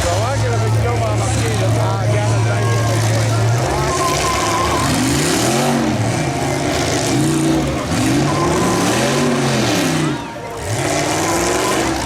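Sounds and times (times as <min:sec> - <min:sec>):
car engines revving: 0:00.0 - 0:12.0
noisy din: 0:00.0 - 0:12.0.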